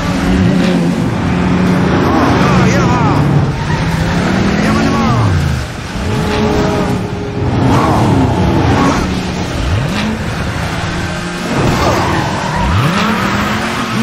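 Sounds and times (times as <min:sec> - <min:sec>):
cartoon race car engines revving: 0:00.0 - 0:14.0.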